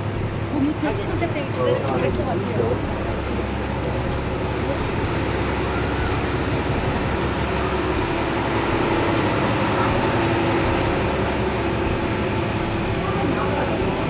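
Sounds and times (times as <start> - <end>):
motor droning: 0.0 - 14.0.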